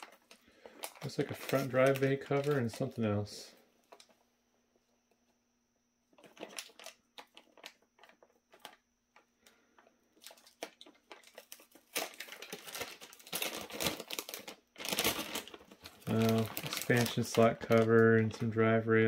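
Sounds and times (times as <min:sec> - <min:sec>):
plastic bag crinkling: 0:00.0 - 0:04.2, 0:06.1 - 0:18.8.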